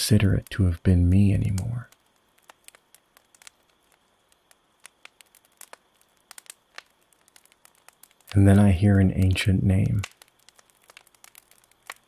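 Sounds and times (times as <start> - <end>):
faint irregular crackling: 0.0 - 12.0.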